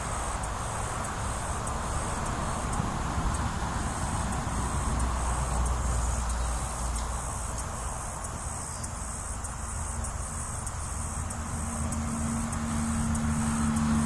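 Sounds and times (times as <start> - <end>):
faint regular ticks: 0.0 - 14.0
high-pitched insect buzz: 0.0 - 14.0.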